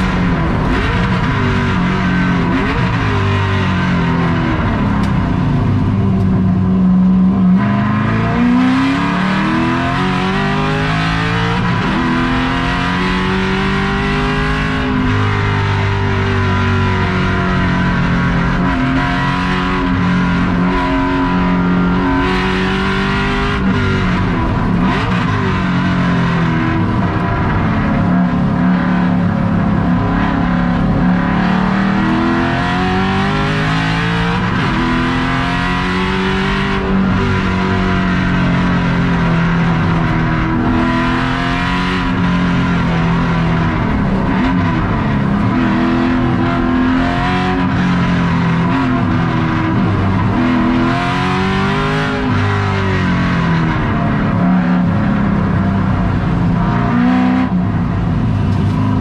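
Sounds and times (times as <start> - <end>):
race car engine revving: 0.0 - 59.0
road noise: 0.0 - 59.0.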